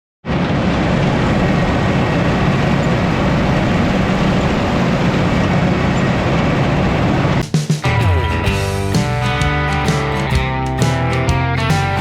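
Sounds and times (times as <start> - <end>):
diesel combine engine drone: 0.3 - 12.0.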